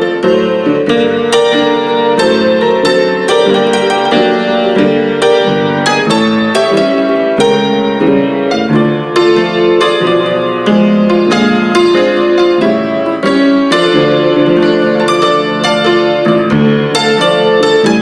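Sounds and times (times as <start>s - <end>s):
piano music through speakers: 0.0s - 18.0s.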